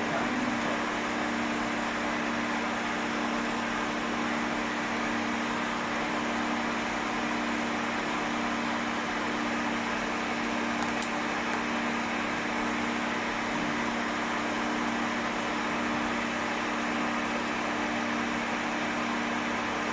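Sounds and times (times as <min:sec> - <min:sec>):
hair dryer blowing: 0:00.0 - 0:19.9.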